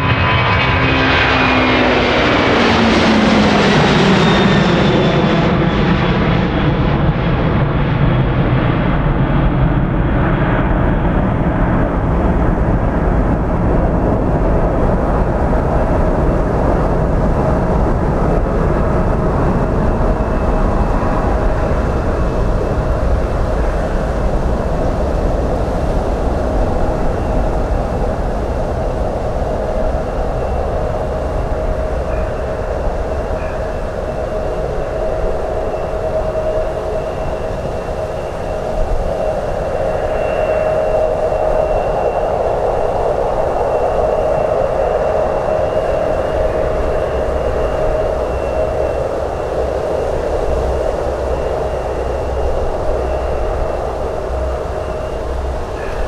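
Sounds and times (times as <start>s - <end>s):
jet airliner roar: 0.0s - 56.0s.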